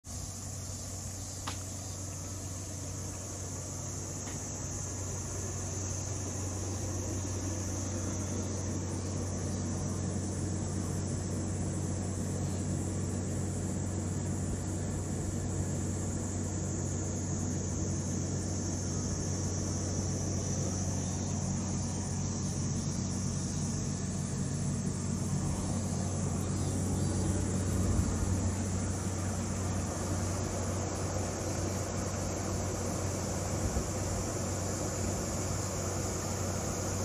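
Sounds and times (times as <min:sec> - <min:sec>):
background hiss: 0:00.0 - 0:37.0
steady low hum: 0:00.0 - 0:37.0.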